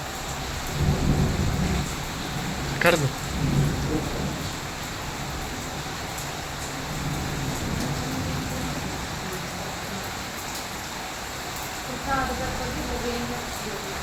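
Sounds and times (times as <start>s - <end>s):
steady rain splashing on ground: 0.0s - 14.0s.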